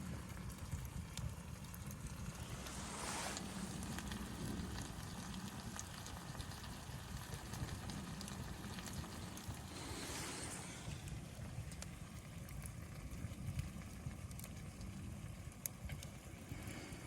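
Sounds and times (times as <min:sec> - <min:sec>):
wood fire crackling: 0:00.0 - 0:17.0
low rumble: 0:00.1 - 0:15.4.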